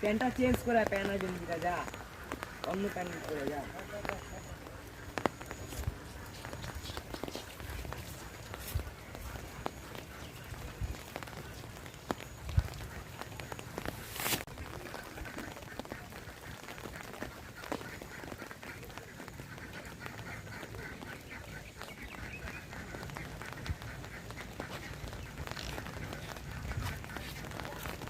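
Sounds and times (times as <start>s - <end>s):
quacking animal calls: 0.4s - 11.9s, 12.5s - 28.0s.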